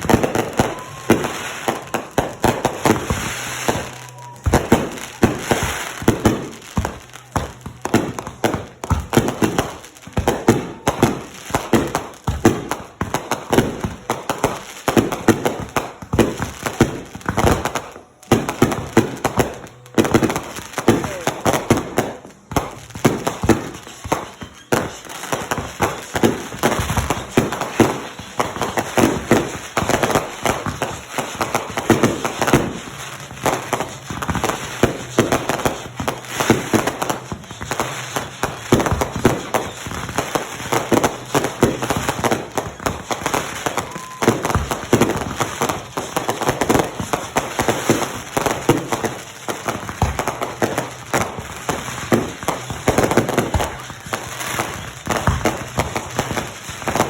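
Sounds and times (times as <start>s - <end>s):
fireworks popping and crackling: 0.0s - 57.0s.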